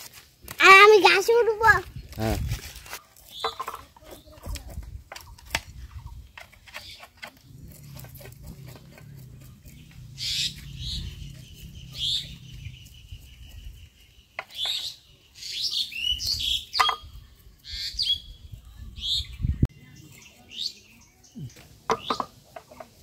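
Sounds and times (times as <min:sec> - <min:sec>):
small birds chirping: 0:00.6 - 0:23.0.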